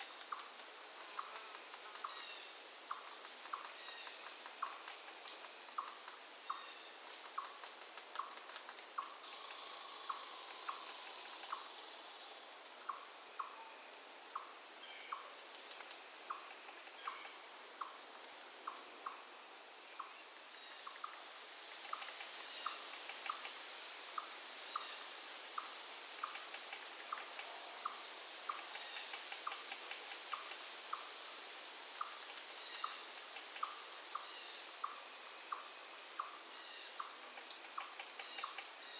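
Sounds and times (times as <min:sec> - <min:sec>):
crickets droning: 0:00.0 - 0:38.9.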